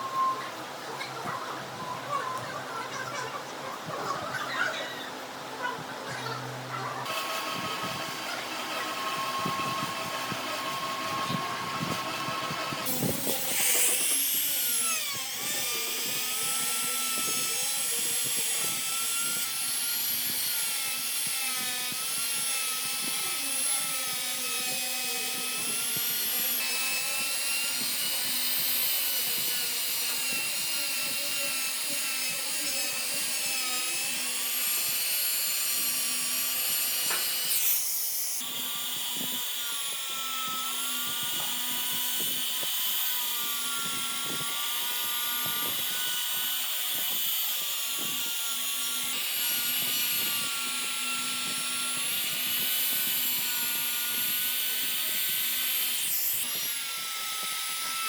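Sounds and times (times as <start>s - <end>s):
power tool motor whining: 7.0s - 58.0s.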